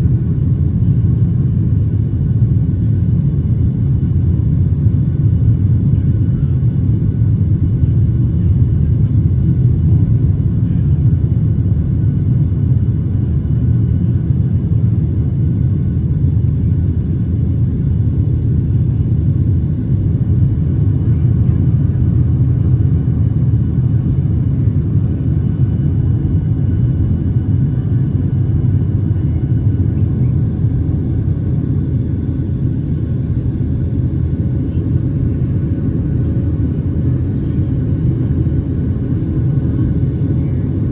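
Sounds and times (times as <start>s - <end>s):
airplane cabin low rumble: 0.0s - 40.9s.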